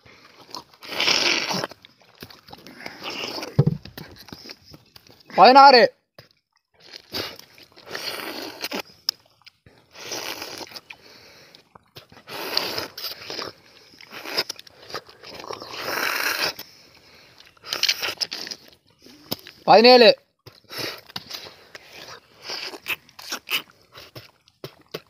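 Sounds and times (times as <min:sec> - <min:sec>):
wet slurping and biting fruit: 0:00.0 - 0:05.3, 0:06.2 - 0:19.6, 0:20.4 - 0:25.0.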